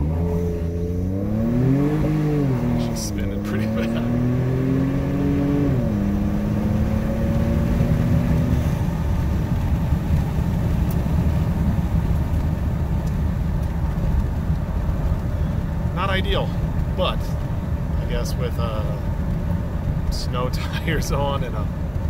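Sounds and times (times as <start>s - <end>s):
road and tyre rumble: 0.0s - 22.0s
truck engine at full throttle: 0.0s - 22.0s.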